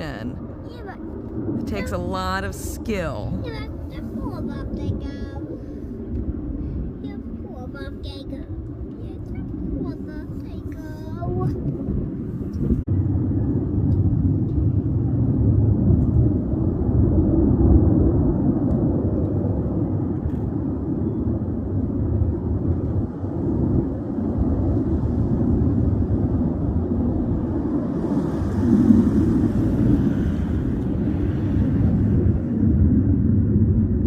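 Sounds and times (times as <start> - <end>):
distant jet engine noise: 0.0 - 34.0.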